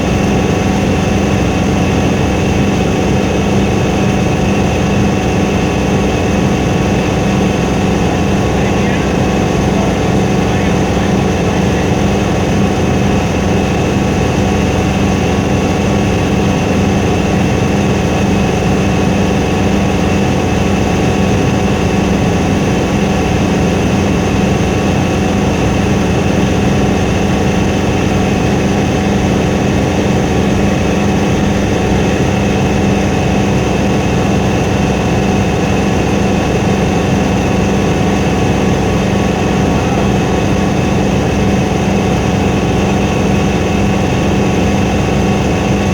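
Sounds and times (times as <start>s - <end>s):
helicopter engine and rotor: 0.0s - 45.9s.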